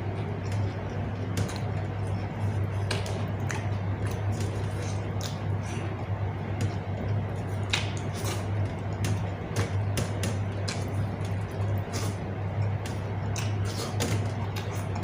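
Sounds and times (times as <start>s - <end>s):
low steady hum: 0.0s - 15.0s
person chewing: 0.0s - 15.0s.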